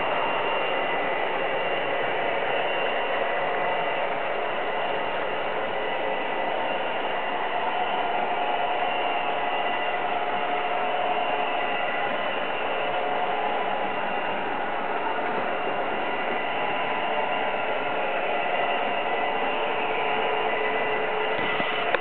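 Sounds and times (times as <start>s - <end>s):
faint steady whines: 0.0s - 22.0s
model train motors whirring: 0.0s - 22.0s.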